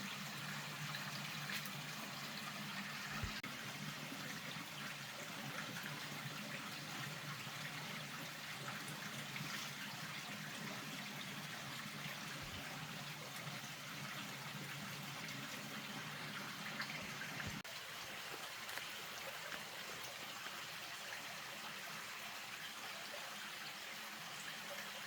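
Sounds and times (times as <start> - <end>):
rainwater trickling: 0.0 - 21.5.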